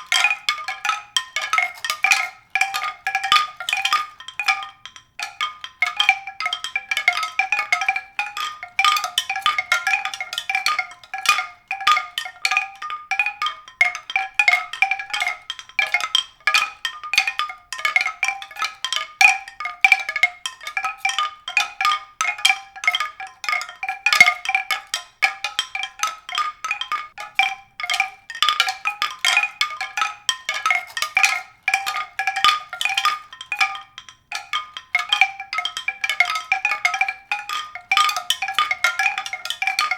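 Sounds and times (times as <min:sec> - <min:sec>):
tuned percussion notes: 0:00.0 - 0:39.9.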